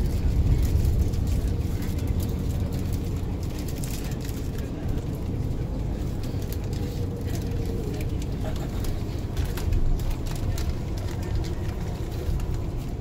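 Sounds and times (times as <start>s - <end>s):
coach engine and tyres rumbling: 0.0s - 13.0s.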